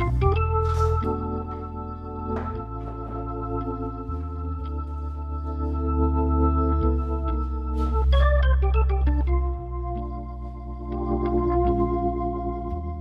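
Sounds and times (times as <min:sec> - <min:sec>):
organ music: 0:00.0 - 0:13.0.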